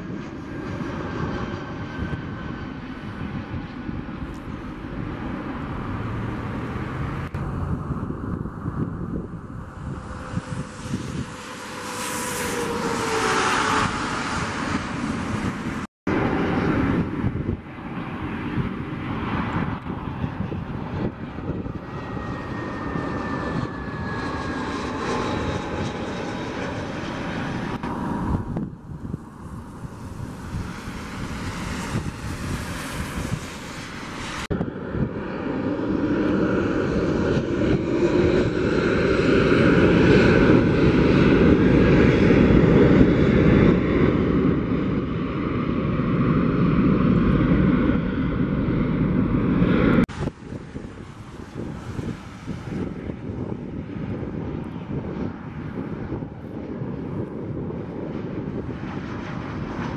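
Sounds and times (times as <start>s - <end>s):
jet engines rumbling: 0.0s - 59.9s
jet engines whining: 0.0s - 59.9s.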